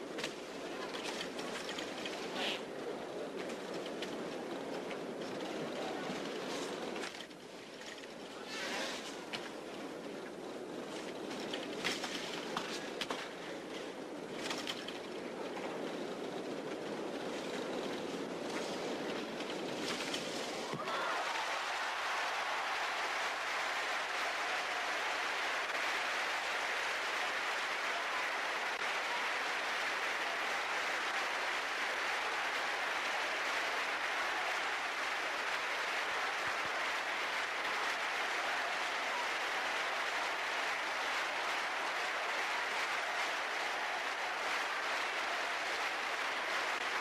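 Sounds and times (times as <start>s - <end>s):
arena crowd applause: 0.0s - 7.3s, 7.9s - 47.0s.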